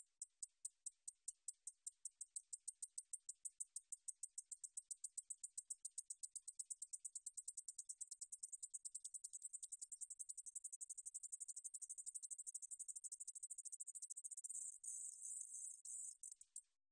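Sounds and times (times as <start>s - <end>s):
katydid high-pitched ticks: 0.0s - 16.7s.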